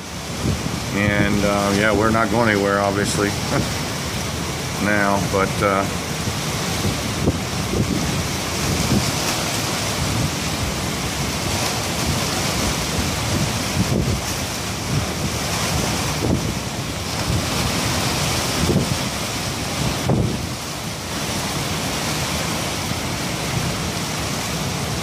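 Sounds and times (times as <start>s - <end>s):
heavy surf: 0.0s - 25.0s
wind buffeting microphone: 0.0s - 25.0s.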